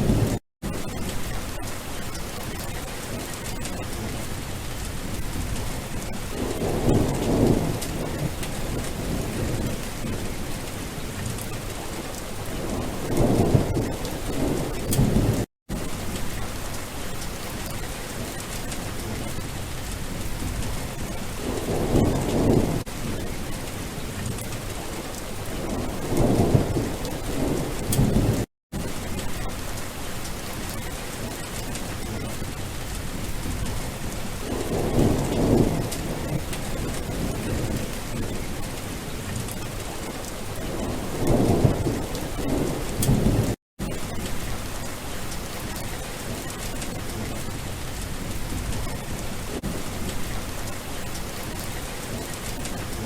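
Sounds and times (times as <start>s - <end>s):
heavy rain: 0.0s - 53.0s
thunder rumbling: 0.0s - 53.0s.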